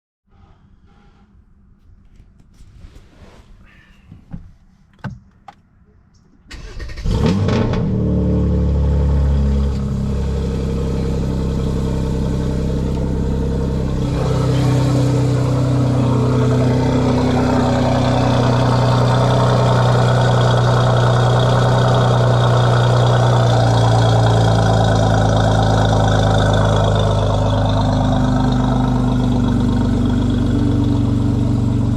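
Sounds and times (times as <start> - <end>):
car engine starting and idling: 0.3 - 31.9.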